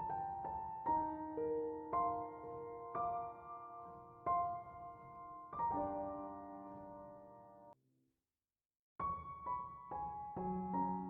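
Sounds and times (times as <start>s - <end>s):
slow piano music: 0.0s - 7.8s, 9.0s - 11.0s.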